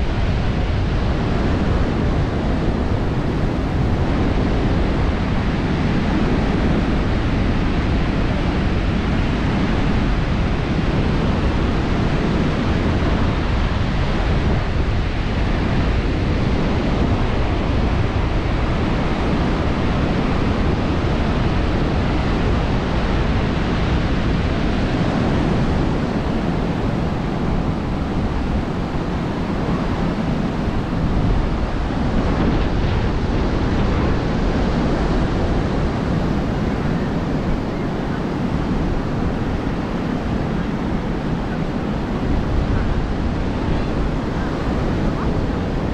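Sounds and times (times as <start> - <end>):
surf washing onto beach: 0.0 - 45.9
wind on microphone: 0.0 - 45.9.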